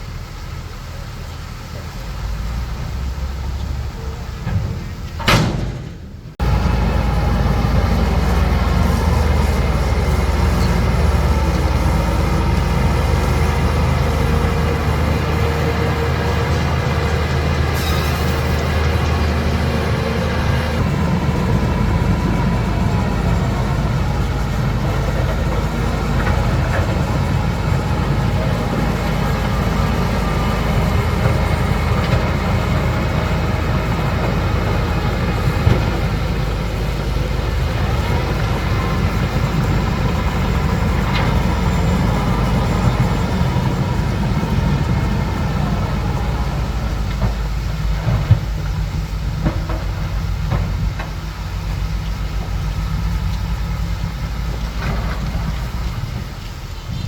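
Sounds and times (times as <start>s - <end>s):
diesel engine running: 0.0s - 57.0s
steel tracks clattering: 3.4s - 57.0s.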